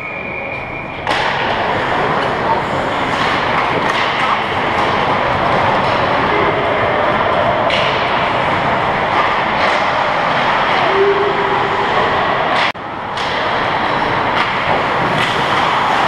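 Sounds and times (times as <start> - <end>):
skating hiss and rumble: 1.0 - 16.0.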